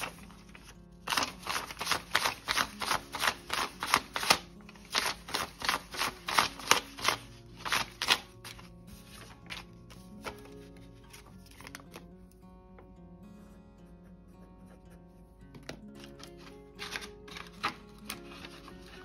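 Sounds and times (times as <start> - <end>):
paper bills snapping: 0.0 - 12.1, 15.6 - 19.0
soft guitar music: 0.0 - 19.0.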